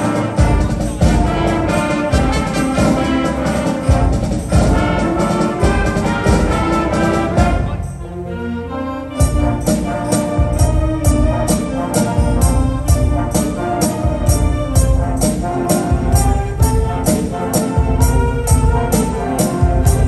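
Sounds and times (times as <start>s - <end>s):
concert wind band playing: 0.0s - 20.0s.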